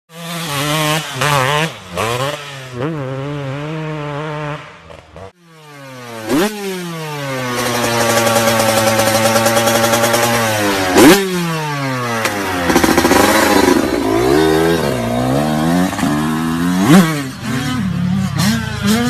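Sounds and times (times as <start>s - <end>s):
two-stroke motorbike engines revving: 0.1s - 19.0s.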